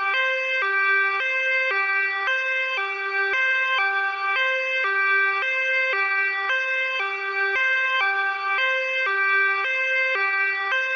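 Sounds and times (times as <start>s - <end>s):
ambulance siren hi-lo: 0.0s - 10.9s.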